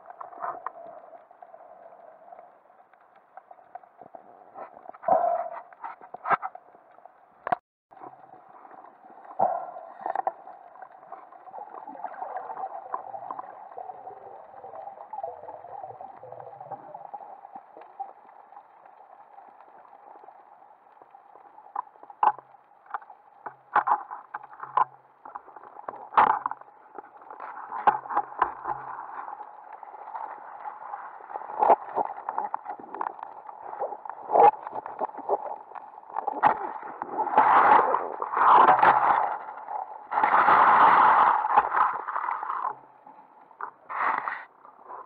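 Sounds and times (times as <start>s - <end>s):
underwater rush of water: 0.0s - 45.0s.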